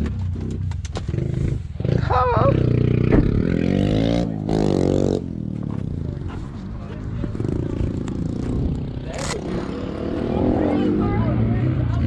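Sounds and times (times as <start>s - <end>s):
engine revving: 0.0s - 5.9s, 7.3s - 12.0s
pit bike engines running: 0.0s - 12.0s.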